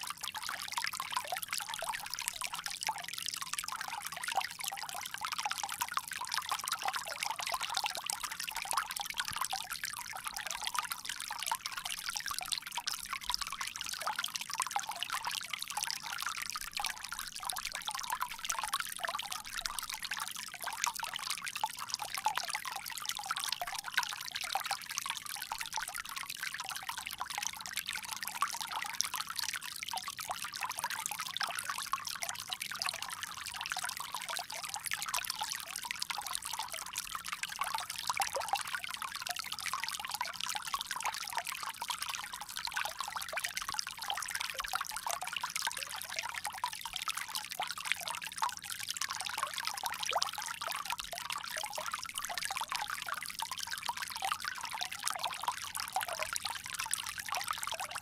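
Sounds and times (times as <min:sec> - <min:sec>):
water trickling from spout: 0:00.0 - 0:58.0.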